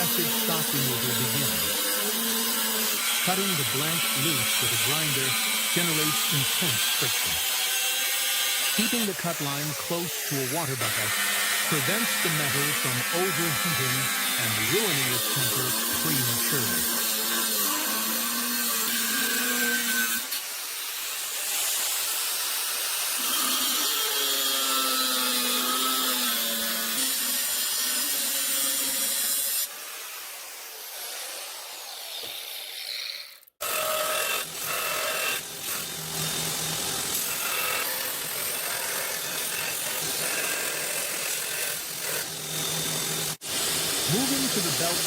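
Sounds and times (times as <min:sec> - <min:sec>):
angle grinder cutting steel: 0:00.0 - 0:45.0.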